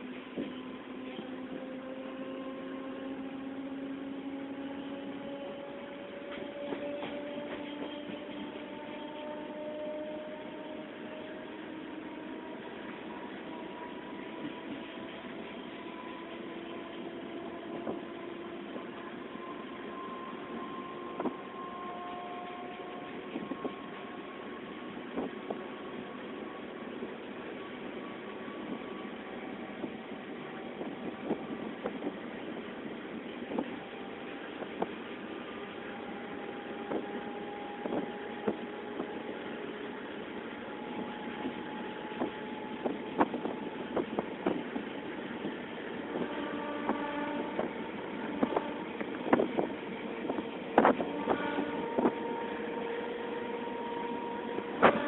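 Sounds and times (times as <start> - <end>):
train rumble and hiss: 0.0 - 55.0.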